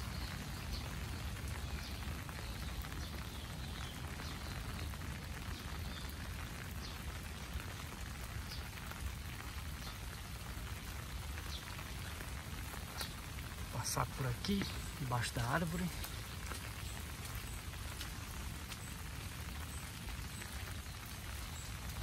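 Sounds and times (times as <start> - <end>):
rain pattering on trees and grass: 0.0 - 22.0.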